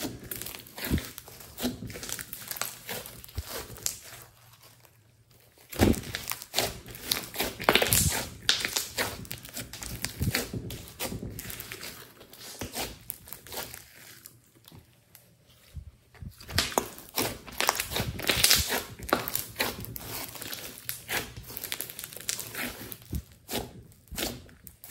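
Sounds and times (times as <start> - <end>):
slime sticky crackles and pops: 0.2 - 4.3, 5.6 - 14.7, 16.4 - 24.9.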